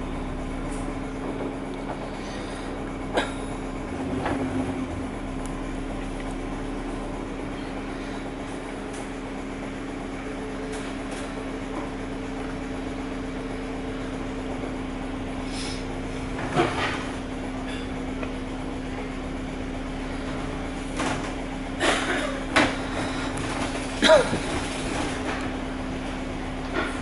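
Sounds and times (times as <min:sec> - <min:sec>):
bus engine drone: 0:00.0 - 0:27.0.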